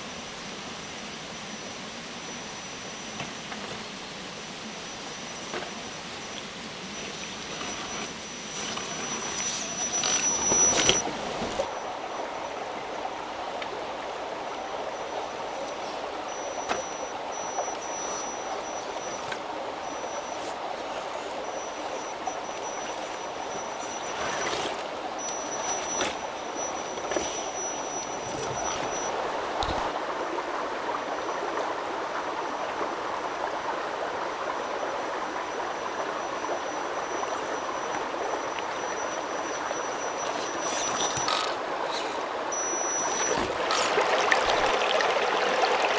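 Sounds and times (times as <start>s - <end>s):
stream running over stones: 0.0s - 45.9s.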